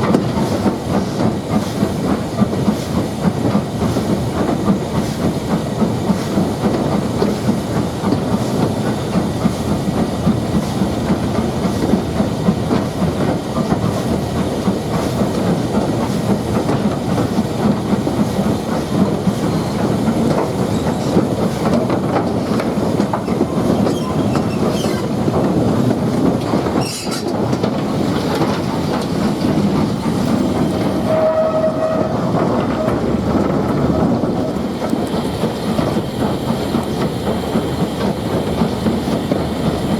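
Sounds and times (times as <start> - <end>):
train rumbling: 0.0 - 39.9
wheels clicking over rail joints: 5.5 - 39.8.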